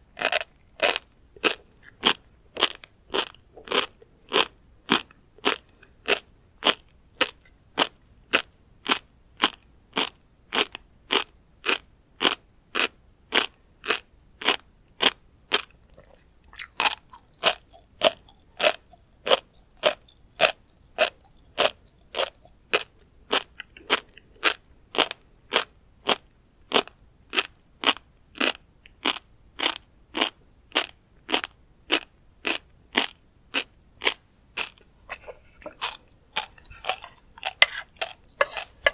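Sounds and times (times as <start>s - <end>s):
close chewing of crunchy fish roe: 0.1s - 38.9s.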